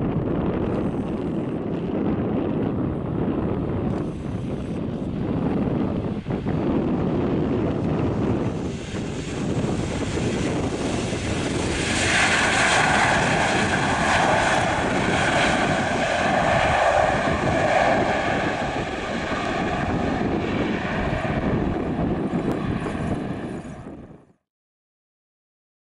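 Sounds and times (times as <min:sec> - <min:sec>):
jet engines roaring with whine: 0:00.0 - 0:24.4.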